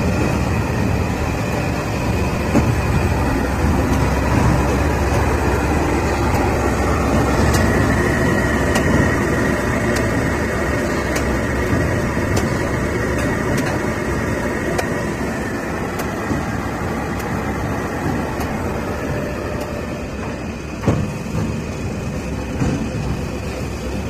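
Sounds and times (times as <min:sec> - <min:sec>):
machine humming: 0:00.0 - 0:24.0.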